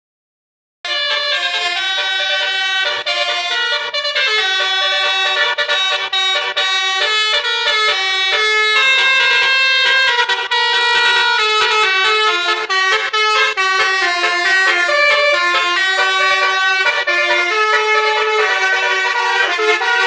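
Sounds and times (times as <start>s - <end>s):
bus air horn playing a melody: 0.8s - 20.0s.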